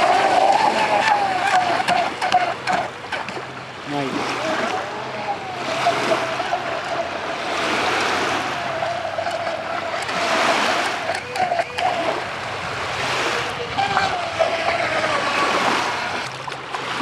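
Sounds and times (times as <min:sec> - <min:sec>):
model boat motor whining: 0:00.0 - 0:17.0
waves lapping: 0:00.0 - 0:17.0
wind: 0:00.0 - 0:17.0.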